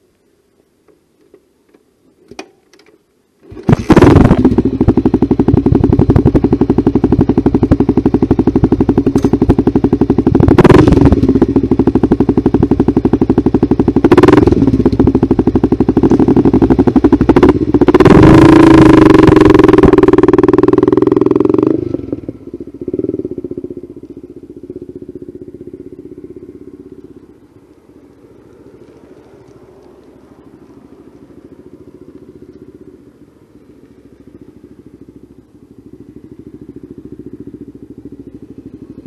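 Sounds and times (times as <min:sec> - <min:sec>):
motorcycle engine idling and revving: 0:03.4 - 0:39.0.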